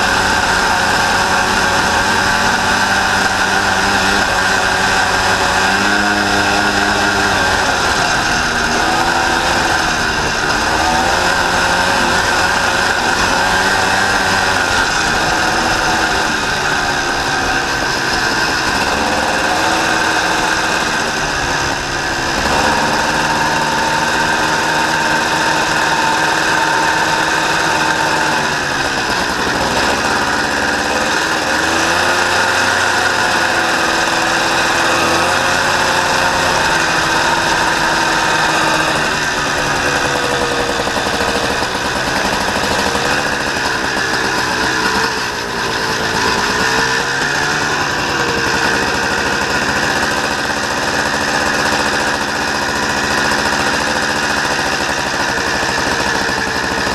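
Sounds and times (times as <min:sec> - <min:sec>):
buggy engine revving: 0:00.0 - 0:56.9.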